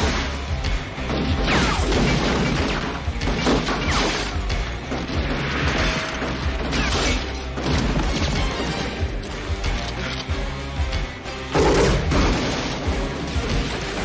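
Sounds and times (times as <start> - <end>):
dramatic score music: 0.0 - 14.0.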